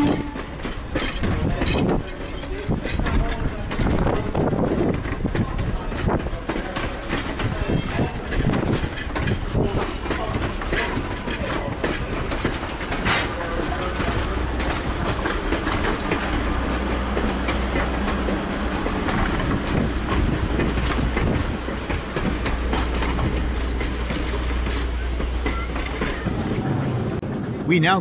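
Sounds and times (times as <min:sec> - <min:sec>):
wheel clicks on rails: 0:00.0 - 0:26.5
train rumbling along track: 0:00.0 - 0:28.0.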